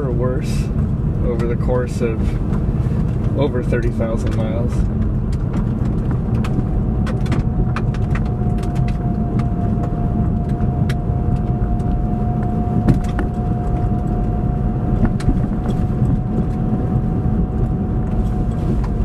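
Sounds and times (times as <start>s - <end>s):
car road and drivetrain rumble: 0.0s - 19.0s
steady high drivetrain whine: 0.0s - 19.0s
faint clicks and rattles: 0.7s - 16.7s.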